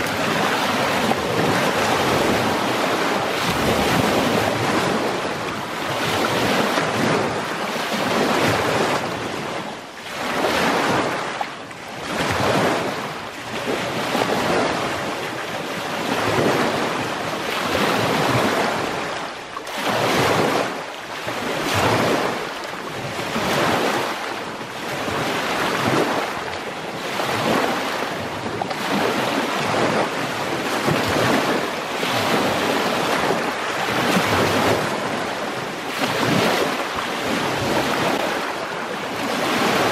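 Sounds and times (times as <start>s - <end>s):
waves washing over rocky shore: 0.0s - 39.9s.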